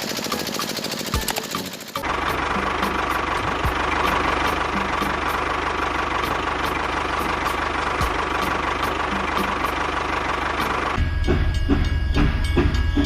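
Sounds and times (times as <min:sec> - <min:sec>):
small engine running with whine: 0:00.0 - 0:13.0.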